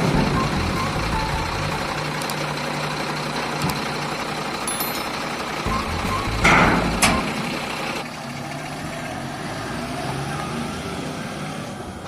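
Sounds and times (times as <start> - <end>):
heavy diesel machinery running: 0.0 - 10.3.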